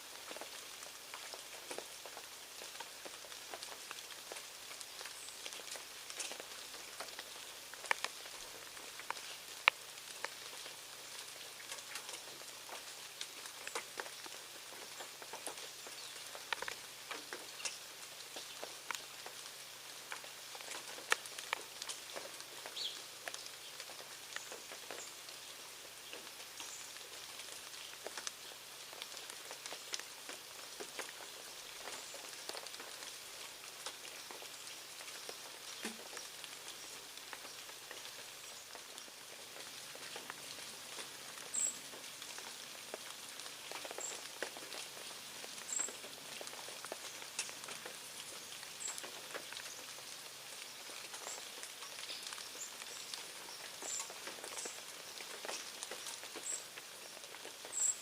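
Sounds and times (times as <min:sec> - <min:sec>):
patter of small ticks: 0:00.0 - 0:58.0.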